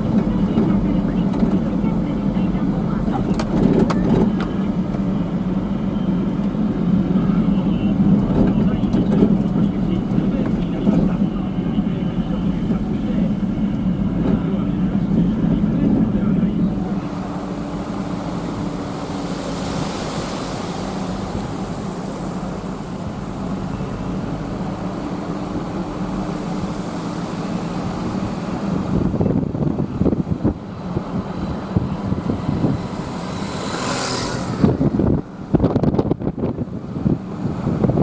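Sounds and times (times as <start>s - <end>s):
low rumble with hum: 0.0s - 38.0s
wind buffeting microphone: 0.0s - 38.0s.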